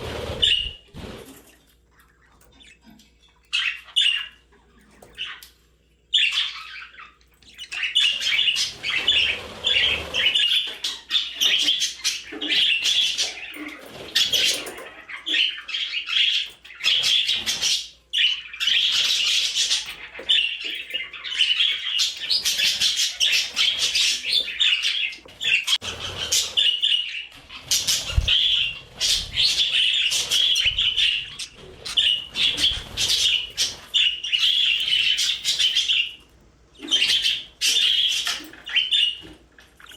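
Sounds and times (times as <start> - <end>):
budgerigars chattering and warbling: 6.2 - 39.9.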